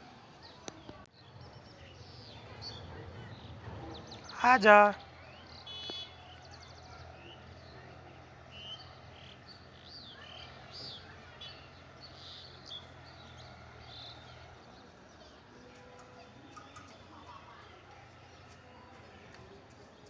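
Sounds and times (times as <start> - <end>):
birds chirping: 0.4 - 20.0.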